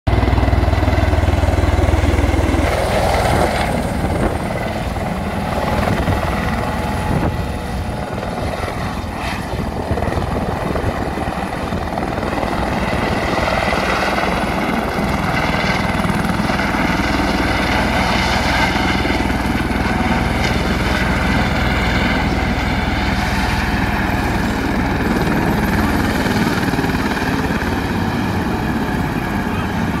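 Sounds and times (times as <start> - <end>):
helicopter rotor and engine: 0.1 - 30.0.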